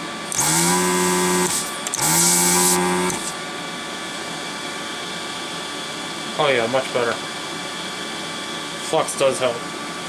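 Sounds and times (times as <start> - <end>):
desoldering vacuum pump humming: 0.0 - 10.0.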